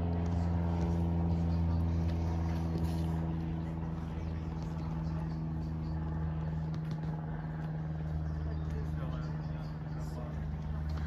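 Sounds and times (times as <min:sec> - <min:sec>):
low mechanical engine hum: 0:00.0 - 0:11.0.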